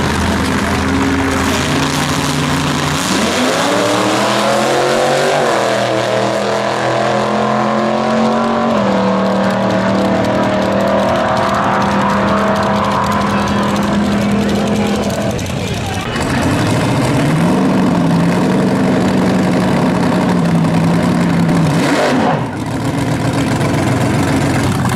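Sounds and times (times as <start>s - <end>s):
drag racing cars launching: 0.0s - 24.9s.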